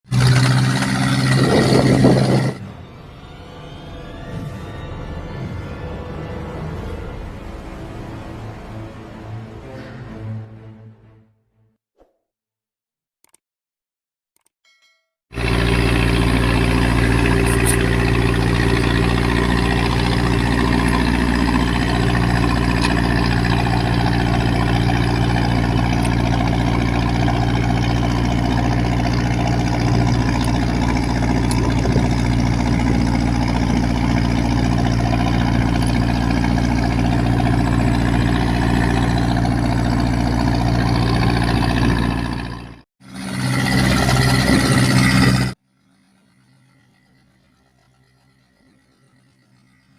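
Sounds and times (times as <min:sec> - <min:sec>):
boat diesel engine running: 0:00.0 - 0:08.7, 0:15.3 - 0:49.9.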